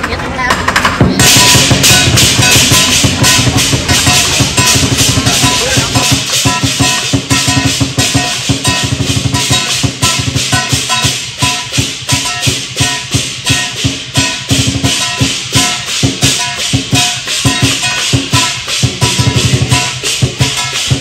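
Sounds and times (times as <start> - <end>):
large drum beating: 0.0 - 21.0
crashing hand cymbals: 0.8 - 21.0
gong ringing: 1.2 - 21.0.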